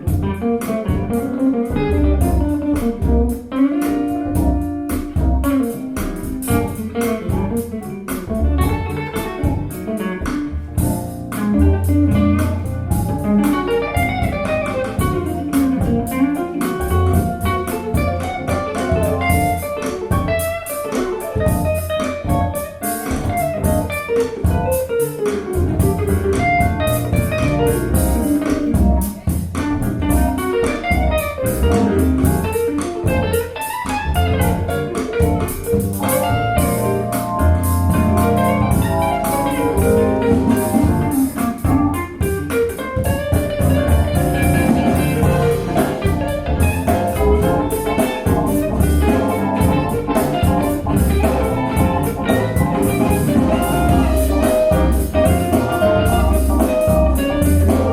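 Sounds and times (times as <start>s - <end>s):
instrumental music over loudspeaker: 0.0s - 57.9s.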